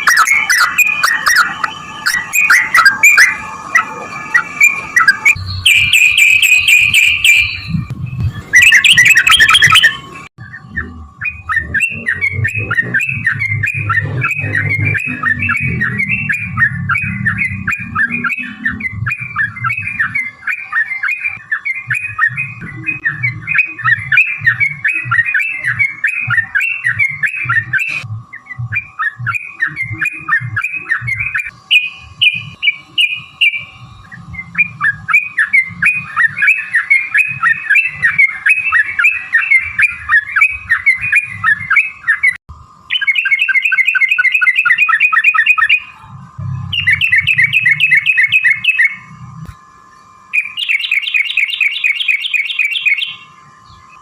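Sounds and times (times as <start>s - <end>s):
bird singing chattering notes: 0.0s - 49.2s, 49.9s - 54.0s.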